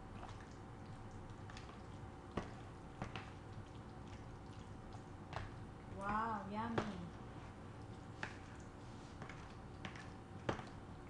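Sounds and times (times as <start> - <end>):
steady low hum: 0.0 - 11.0
wet squishing of fruit mixing: 0.0 - 11.0.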